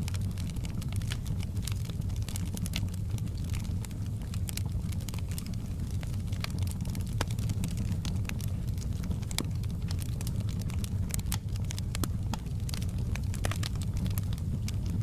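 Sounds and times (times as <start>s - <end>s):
low rumble of burning fire: 0.0s - 15.0s
wood fire crackling: 0.0s - 15.0s.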